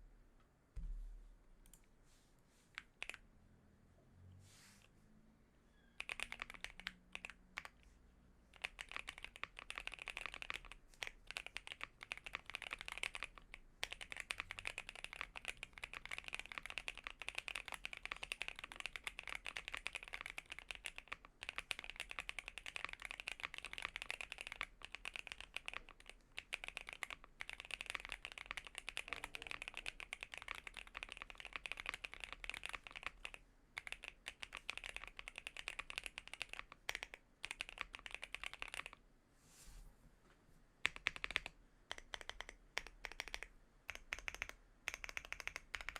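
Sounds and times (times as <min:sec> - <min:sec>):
mechanical keyboard typing: 0:02.8 - 0:03.2, 0:06.0 - 0:07.8, 0:08.5 - 0:39.0, 0:40.8 - 0:45.9.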